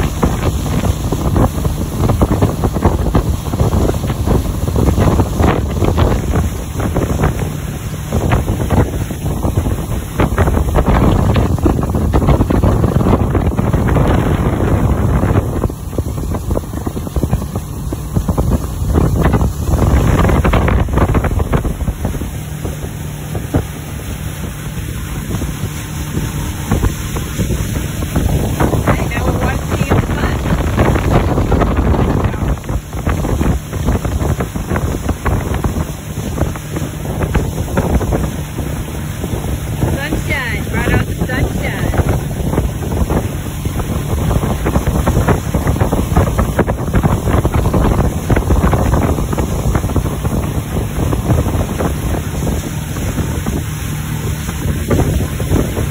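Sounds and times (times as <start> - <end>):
boat engine: 0.0 - 55.9
rush of boat wake: 0.0 - 55.9
wind buffeting microphone: 0.0 - 55.9.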